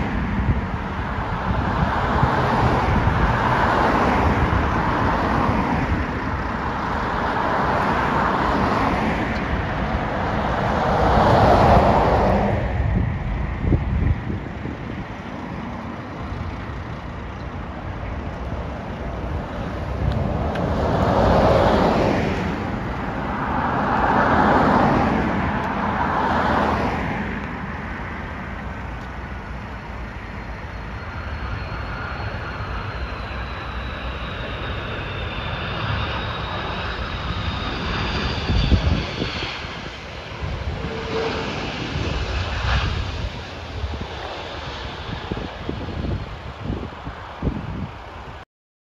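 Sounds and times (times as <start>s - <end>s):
airliner engine whine: 0.0s - 48.4s
road vehicles passing: 0.0s - 48.4s.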